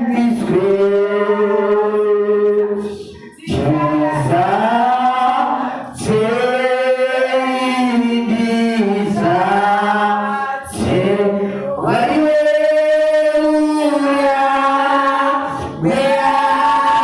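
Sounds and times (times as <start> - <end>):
congregation singing a hymn: 0.0 - 17.0.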